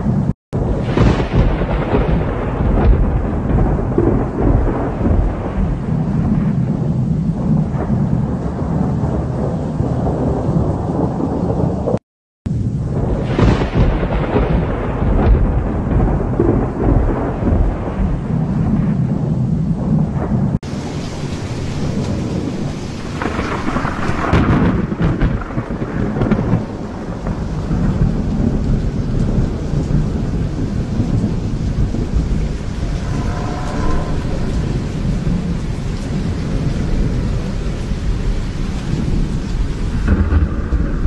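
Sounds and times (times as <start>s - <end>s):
steady rain: 0.0s - 41.0s
thunder rumbling: 0.0s - 41.0s.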